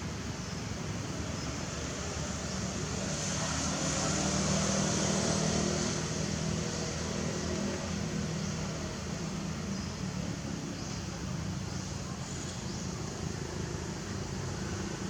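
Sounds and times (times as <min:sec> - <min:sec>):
vehicle engine hum and road noise: 0:00.0 - 0:15.0.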